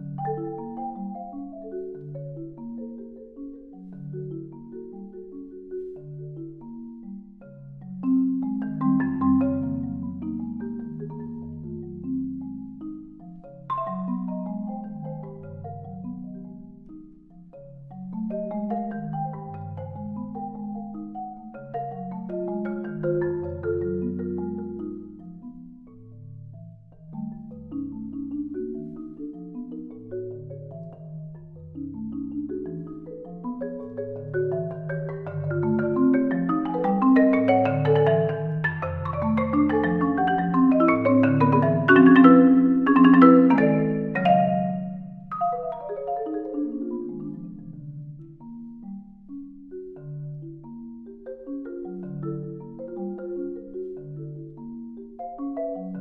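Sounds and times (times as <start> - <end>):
marimba fast runs: 0.0 - 25.8, 26.6 - 56.0.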